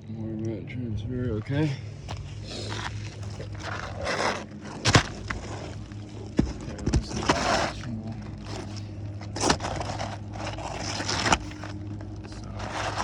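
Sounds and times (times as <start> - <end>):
shingles scraping: 2.1 - 13.0.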